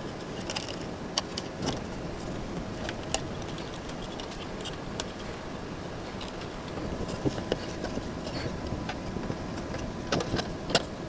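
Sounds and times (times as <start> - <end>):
wires rustling: 0.0 - 10.9.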